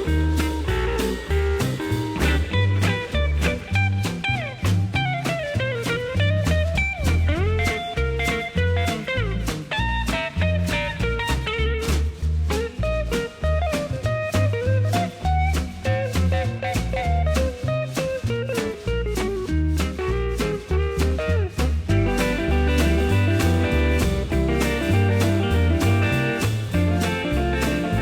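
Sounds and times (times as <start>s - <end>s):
bass line: 0.0s - 28.0s
bluesy guitar music: 0.0s - 28.0s
steady beat: 0.0s - 28.0s.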